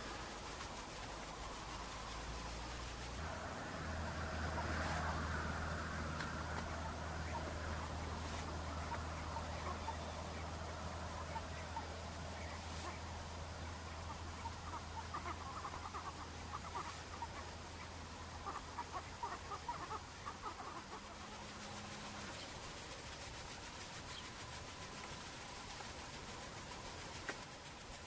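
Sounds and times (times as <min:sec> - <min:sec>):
waterbirds chattering calls: 0:00.0 - 0:25.7
low steady hum: 0:00.0 - 0:28.0.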